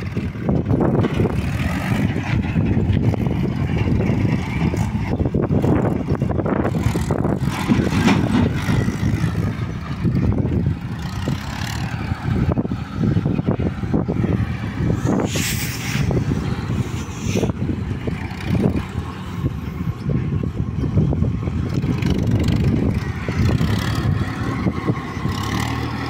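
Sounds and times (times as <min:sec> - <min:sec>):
diesel tractor engine under load: 0:00.0 - 0:26.0.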